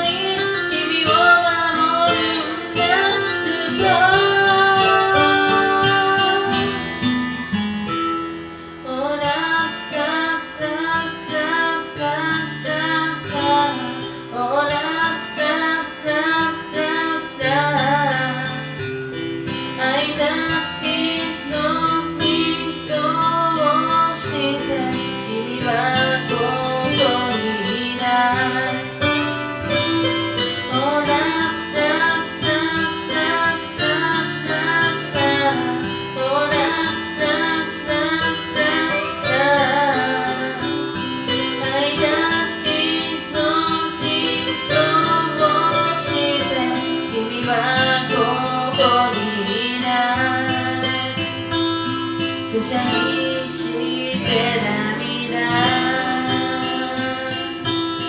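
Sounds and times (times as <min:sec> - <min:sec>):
person singing pop ballad: 0:00.0 - 0:58.0
strummed acoustic guitar: 0:00.0 - 0:58.0.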